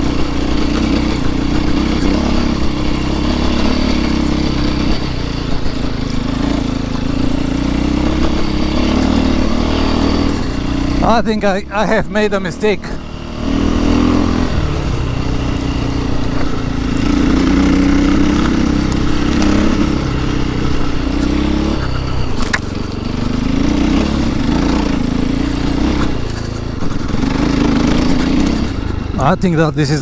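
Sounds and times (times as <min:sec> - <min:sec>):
motorcycle engine revving: 0:00.0 - 0:30.0
wind and trail noise: 0:00.0 - 0:30.0.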